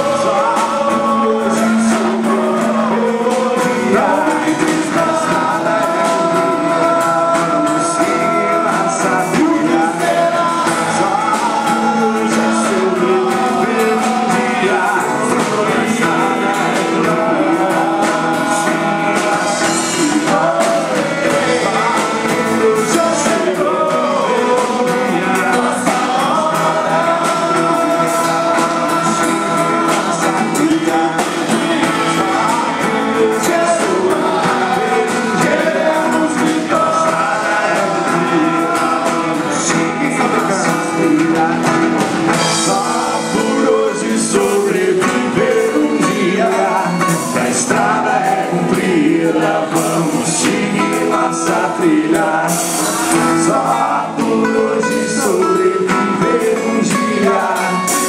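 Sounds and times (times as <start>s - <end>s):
band playing a song with singing: 0.0s - 58.0s.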